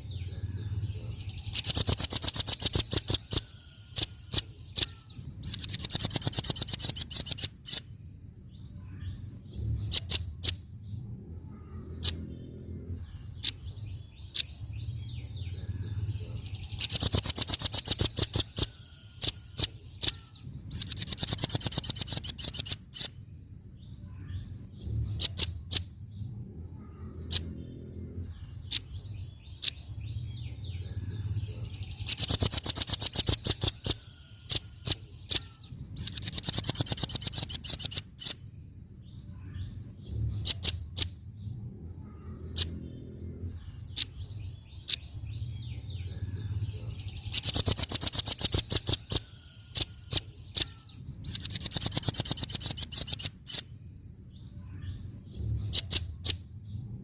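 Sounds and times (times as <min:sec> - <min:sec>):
bird chattering trills: 0:00.0 - 0:56.6.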